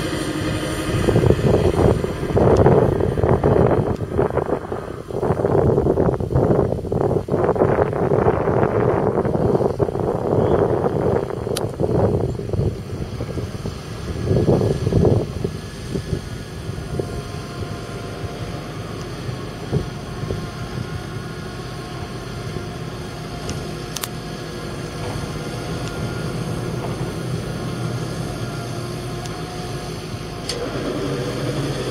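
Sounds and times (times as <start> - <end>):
rush of noise: 0.0 - 31.9
tractor diesel engine running: 0.0 - 31.9.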